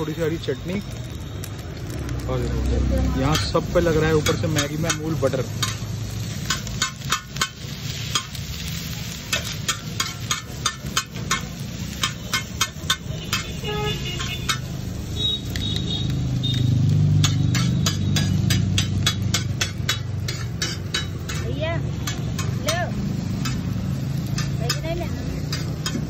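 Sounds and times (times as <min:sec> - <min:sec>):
metal spatulas clinking on griddle: 0:03.2 - 0:14.8, 0:16.5 - 0:26.0.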